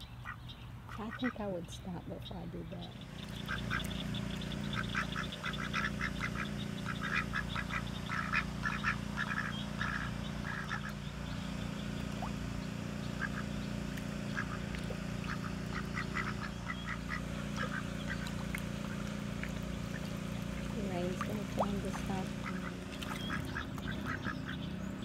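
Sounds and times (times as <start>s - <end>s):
ducks quacking: 0.0s - 25.0s
steady low hum: 0.0s - 25.0s.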